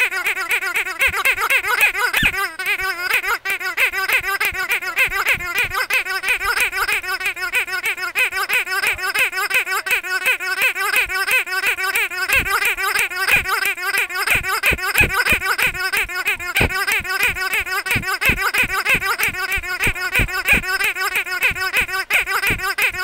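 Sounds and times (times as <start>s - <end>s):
squeaky dog toy squeaking: 0.0s - 23.0s.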